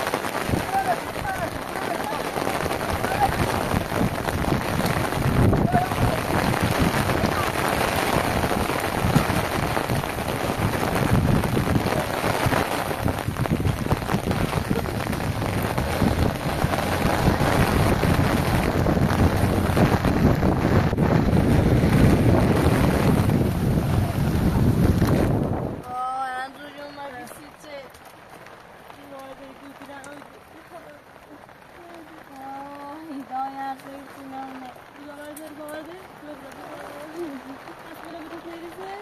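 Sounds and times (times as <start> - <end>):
heavy rain falling: 0.0 - 39.0
wind rumbling on microphone: 0.0 - 39.0.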